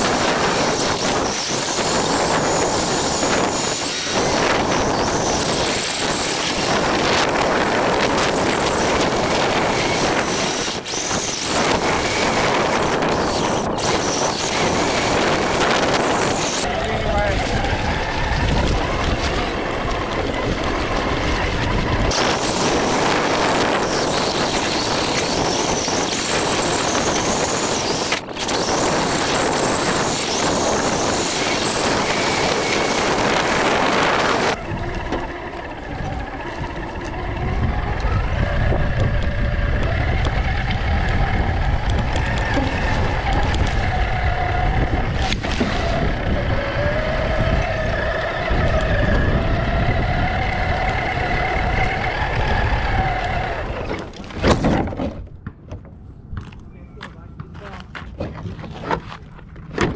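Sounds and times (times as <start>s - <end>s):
rc truck motor whining: 0.0s - 54.4s.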